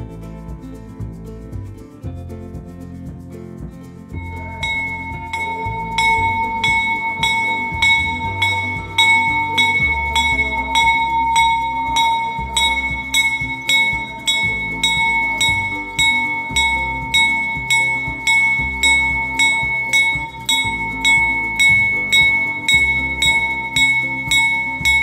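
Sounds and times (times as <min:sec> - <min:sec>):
low chords: 0:00.0 - 0:25.0
bell-like chime: 0:04.2 - 0:25.0.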